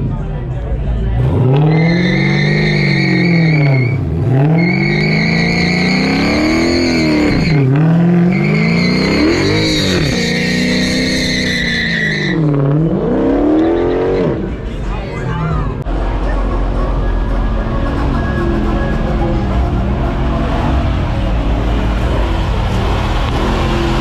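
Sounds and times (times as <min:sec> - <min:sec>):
car engine revving: 0:00.0 - 0:24.0
tire squealing: 0:01.1 - 0:24.0.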